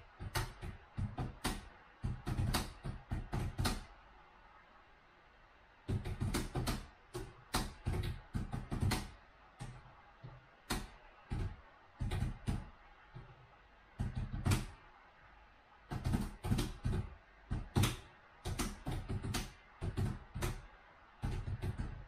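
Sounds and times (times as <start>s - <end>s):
laptop keyboard typing: 0.2s - 3.9s, 5.9s - 13.3s, 14.0s - 14.8s, 15.9s - 22.0s.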